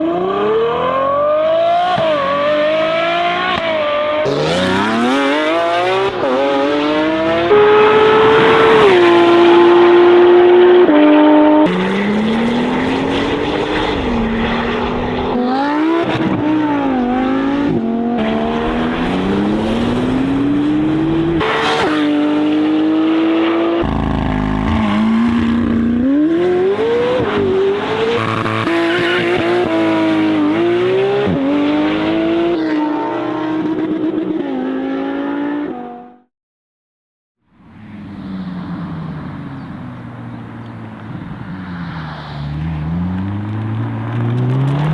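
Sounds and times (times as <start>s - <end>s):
sports car engines revving: 0.0s - 36.2s, 37.8s - 44.9s.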